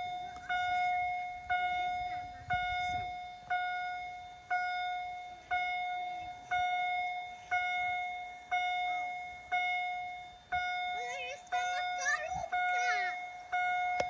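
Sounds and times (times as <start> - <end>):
level crossing warning bell ringing: 0.0 - 14.0.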